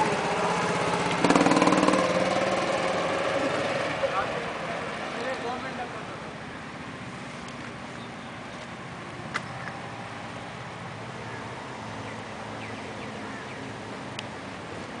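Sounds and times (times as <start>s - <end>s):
distant go-kart engines: 0.0s - 15.0s.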